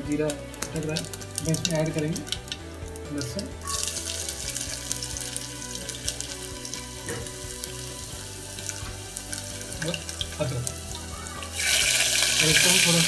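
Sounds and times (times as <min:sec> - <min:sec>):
garlic sizzling in hot fat: 0:00.0 - 0:13.0.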